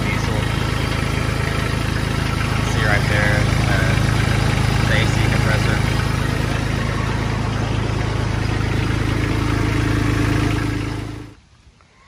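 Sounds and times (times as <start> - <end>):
diesel engine idling: 0.0 - 11.4.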